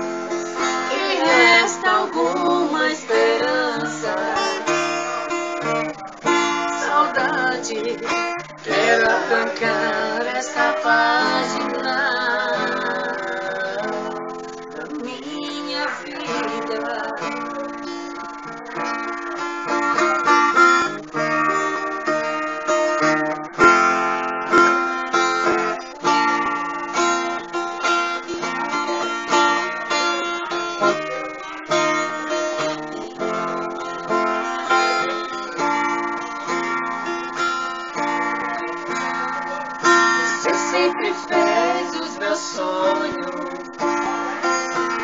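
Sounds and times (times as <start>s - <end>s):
strummed acoustic guitar chords: 0.0s - 45.0s.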